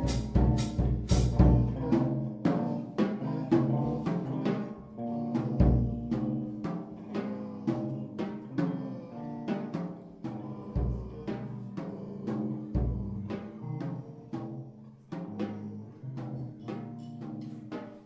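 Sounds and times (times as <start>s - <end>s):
drums and percussion: 0.0s - 18.0s.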